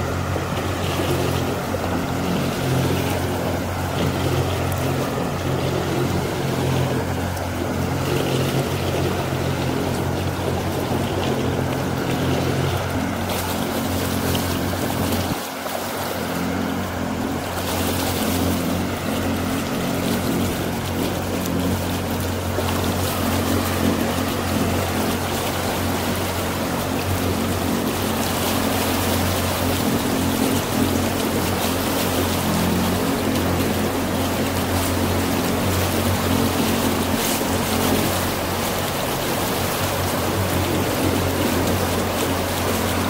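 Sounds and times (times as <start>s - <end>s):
motorboat engine drone: 0.0s - 43.0s
water rushing: 0.0s - 43.0s
wind: 0.0s - 43.0s.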